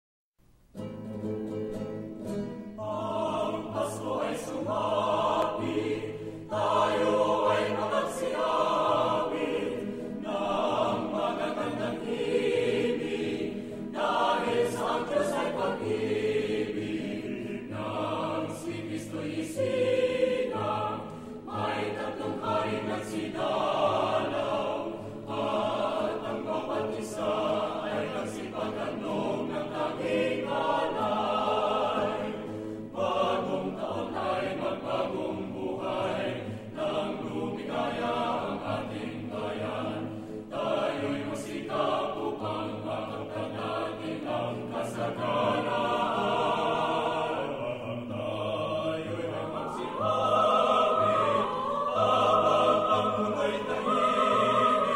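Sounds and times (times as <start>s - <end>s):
choir singing: 2.7s - 54.9s.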